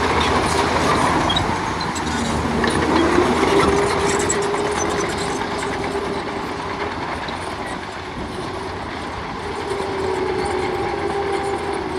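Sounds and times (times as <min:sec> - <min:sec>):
diesel engine whining: 0:00.0 - 0:11.9.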